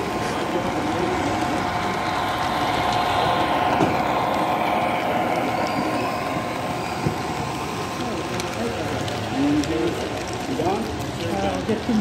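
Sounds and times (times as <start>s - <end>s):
model train running hum: 0.0s - 12.0s.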